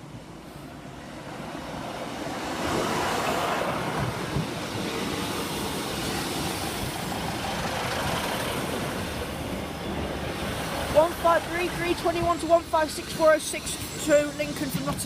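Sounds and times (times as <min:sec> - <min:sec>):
diesel train engines running: 0:00.0 - 0:15.0
train wheels rumbling on rail: 0:00.0 - 0:15.0.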